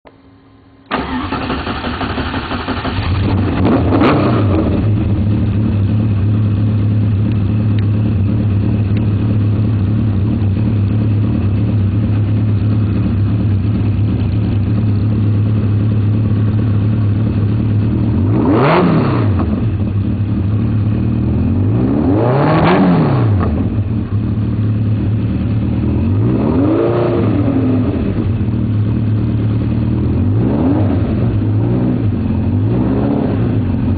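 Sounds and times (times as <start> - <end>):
engine throttle blips: 0.1 - 33.9
car engine idling: 0.9 - 18.5, 19.2 - 21.8, 23.3 - 26.3, 27.3 - 33.9.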